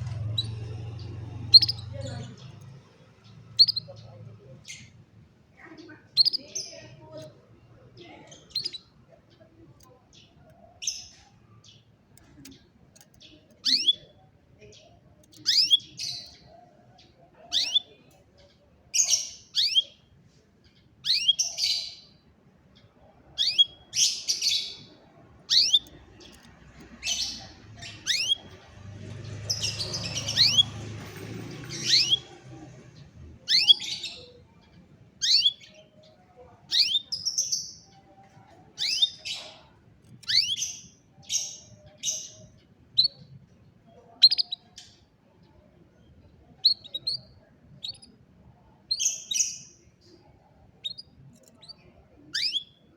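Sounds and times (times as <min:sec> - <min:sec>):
canary chirping: 0:00.0 - 0:52.9.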